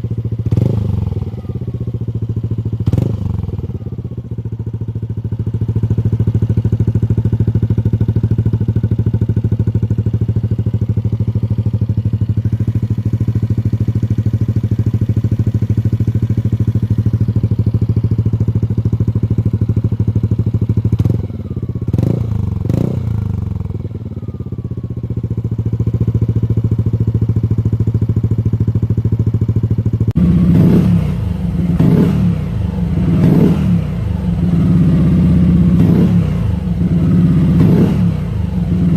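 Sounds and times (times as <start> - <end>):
scooter engine idling and revving: 0.0 - 38.9.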